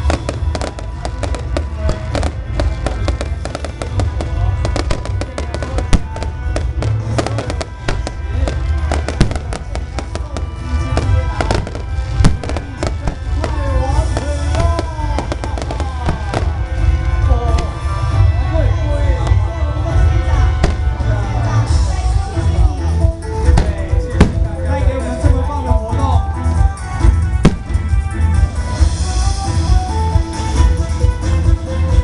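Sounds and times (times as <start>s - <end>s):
fireworks bangs and crackling: 0.0s - 18.4s, 19.1s - 25.4s, 26.8s - 29.8s
music playing: 0.0s - 32.0s.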